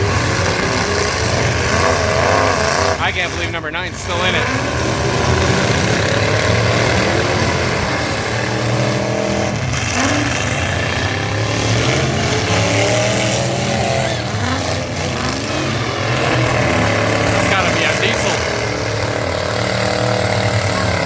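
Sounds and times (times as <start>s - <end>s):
truck engines revving: 0.0s - 21.0s.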